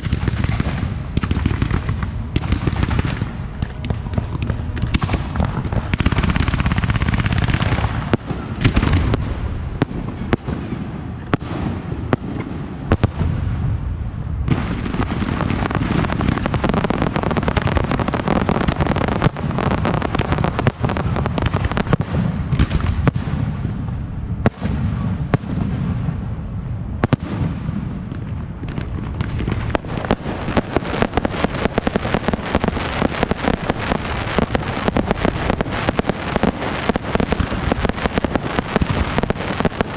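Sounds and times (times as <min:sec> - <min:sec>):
fireworks and firecrackers crackling: 0:00.0 - 0:39.9.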